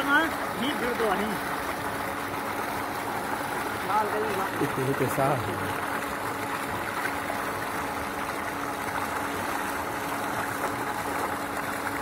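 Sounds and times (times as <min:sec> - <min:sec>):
low machine hum: 0:00.0 - 0:12.0
water gushing from a pipe: 0:00.0 - 0:12.0.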